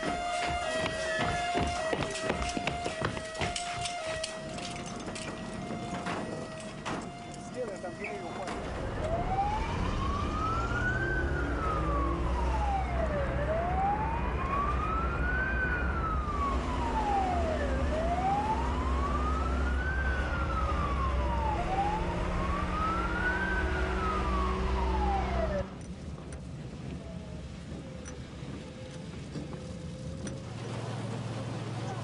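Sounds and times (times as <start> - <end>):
fire engine siren wailing: 0.0 - 25.8
truck engine rumble: 0.0 - 32.0.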